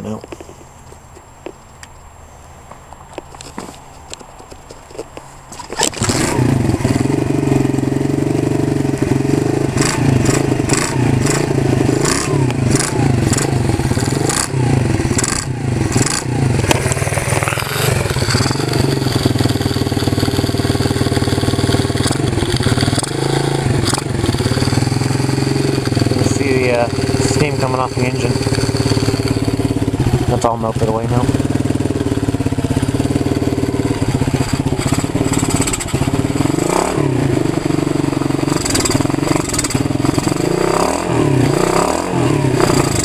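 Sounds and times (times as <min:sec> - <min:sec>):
small motorbike engine starting and revving: 0:05.5 - 0:43.0.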